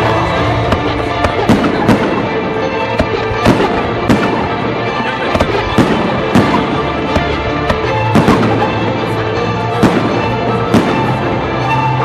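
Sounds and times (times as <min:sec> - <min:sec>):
fireworks bursting with loud bangs: 0:00.0 - 0:11.9
music playing: 0:00.0 - 0:12.0.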